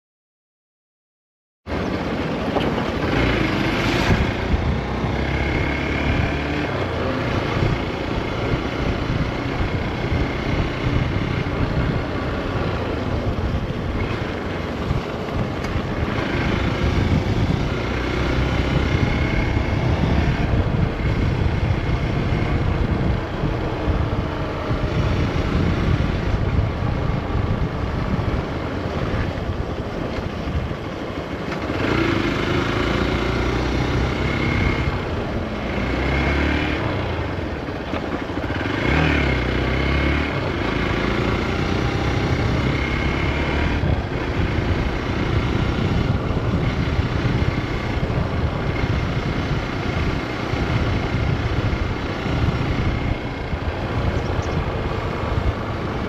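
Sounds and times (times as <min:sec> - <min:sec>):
motorcycle engine revving: 0:01.7 - 0:56.0
wind buffeting microphone: 0:01.7 - 0:56.0.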